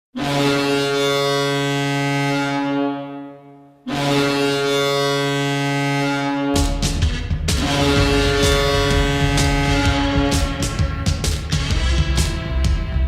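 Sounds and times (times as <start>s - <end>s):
goal horn blasts: 0.1s - 13.0s.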